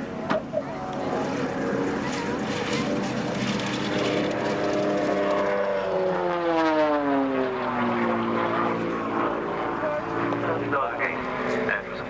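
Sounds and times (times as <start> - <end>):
propeller aircraft flying by: 0.0 - 12.0.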